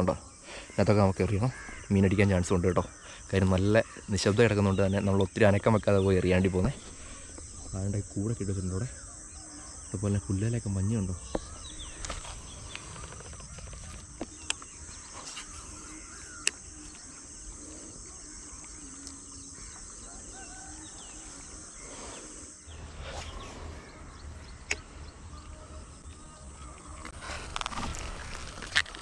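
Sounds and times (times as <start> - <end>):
high insect drone: 0.0 - 29.0
bird chirps: 3.0 - 28.9.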